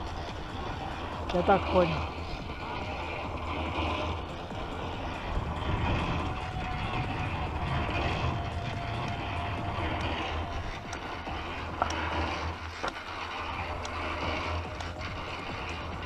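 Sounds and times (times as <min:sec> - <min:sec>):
bicycle rolling over gravel: 0:00.0 - 0:16.0
faint steady whine: 0:00.0 - 0:16.0
wind noise on microphone: 0:00.0 - 0:16.0.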